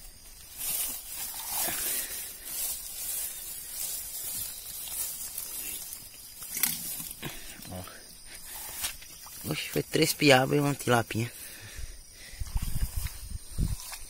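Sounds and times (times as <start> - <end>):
grass rustling: 0.0 - 14.0.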